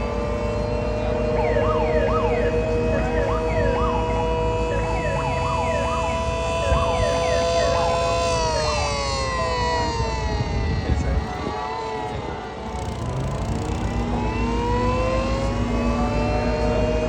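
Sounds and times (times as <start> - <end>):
mini sirens whooping: 0.0 - 17.0.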